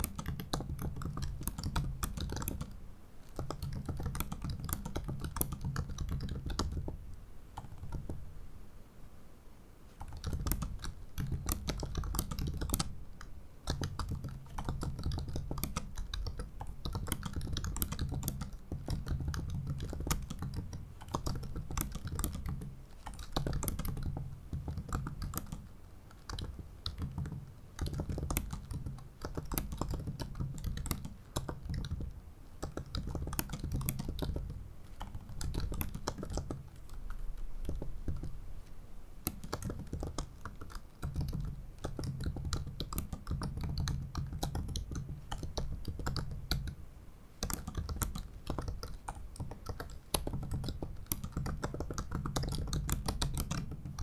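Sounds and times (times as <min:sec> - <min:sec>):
laptop keyboard typing: 0:00.0 - 0:08.3, 0:09.9 - 0:54.0.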